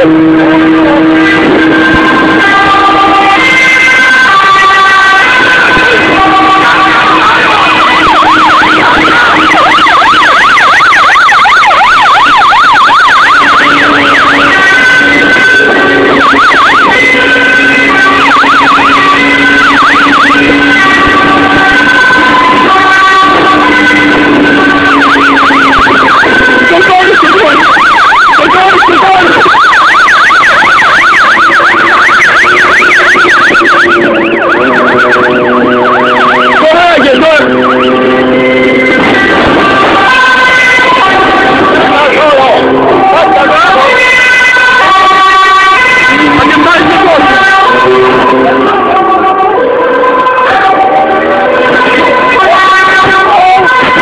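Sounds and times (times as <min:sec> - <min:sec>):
police siren yelp: 0:00.0 - 0:54.0.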